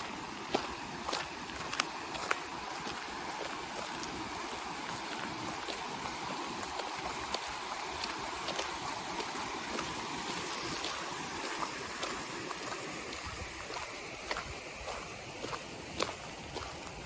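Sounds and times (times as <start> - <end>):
footsteps on path: 0.0 - 17.0
river water rushing: 0.0 - 17.0.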